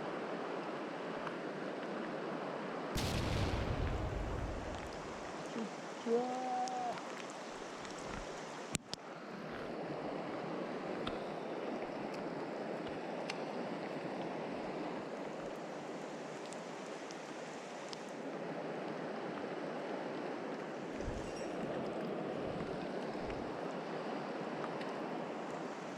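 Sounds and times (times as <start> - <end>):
stream water rushing: 0.2 - 25.9.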